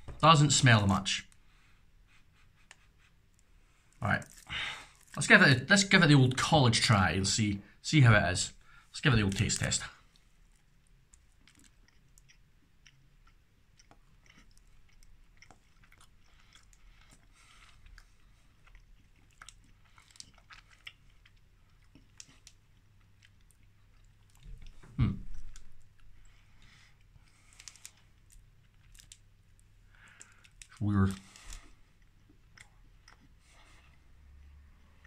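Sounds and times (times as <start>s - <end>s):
person chewing: 2.7s - 5.2s, 9.2s - 35.0s.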